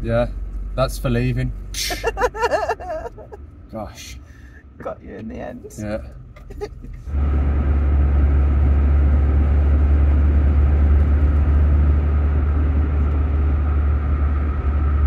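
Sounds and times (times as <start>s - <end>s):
car engine and road noise drone: 0.0s - 15.0s.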